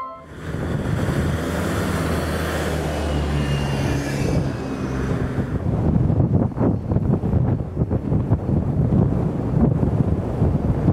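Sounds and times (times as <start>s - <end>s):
engine rumble: 0.2s - 10.9s.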